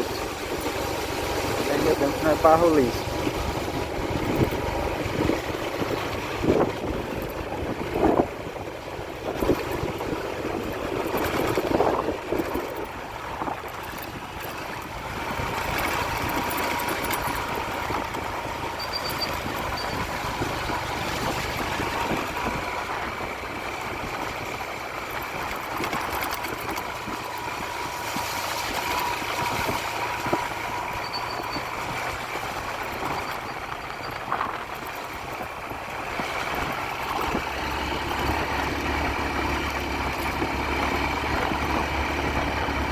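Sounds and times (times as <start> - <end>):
road noise on unpaved road: 0.0 - 42.9
vehicle engine running: 0.0 - 42.9.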